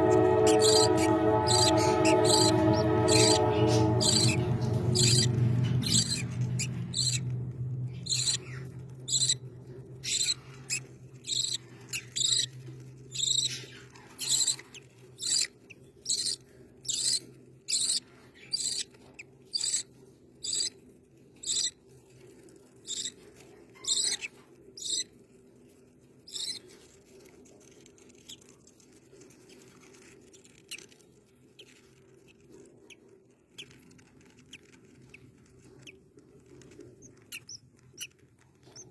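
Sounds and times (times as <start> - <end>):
bird chick squeaky calls: 0.0 - 20.8, 21.4 - 21.8, 22.7 - 25.2, 26.3 - 27.0, 28.1 - 38.9.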